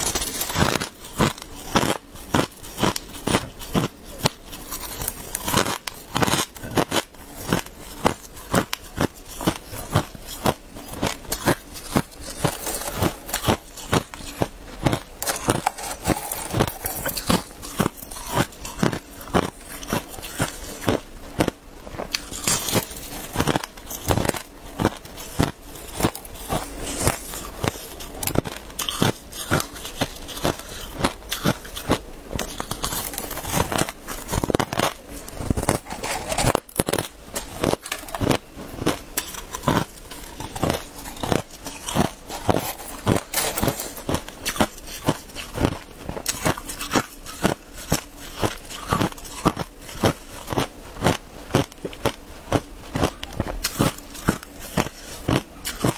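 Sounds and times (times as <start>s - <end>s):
chewing crushed ice: 0.0s - 55.9s.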